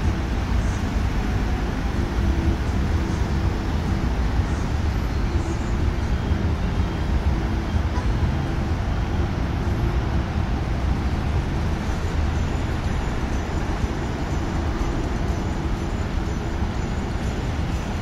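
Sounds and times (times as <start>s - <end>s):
city road traffic rumble: 0.0s - 18.0s.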